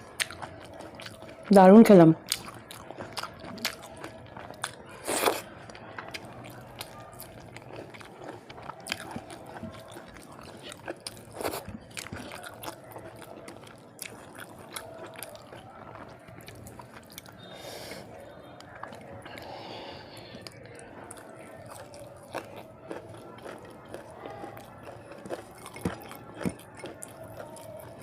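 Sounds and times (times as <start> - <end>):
person chewing and crunching food: 0.0 - 1.5, 2.2 - 28.0.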